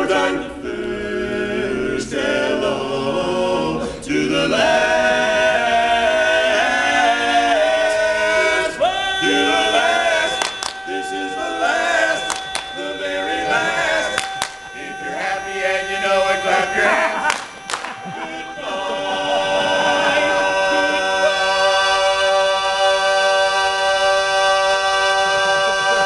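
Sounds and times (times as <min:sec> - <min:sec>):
men singing a cappella harmony: 0:00.0 - 0:26.0.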